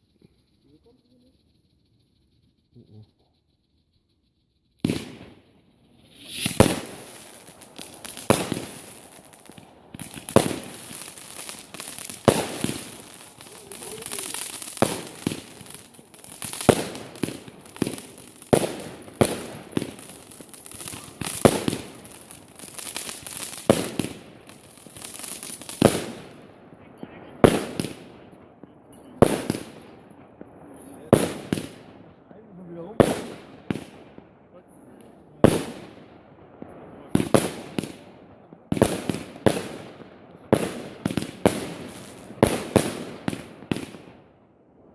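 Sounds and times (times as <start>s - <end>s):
high-pitched fireworks crackling: 0.0s - 44.9s
fireworks bangs: 4.8s - 44.9s.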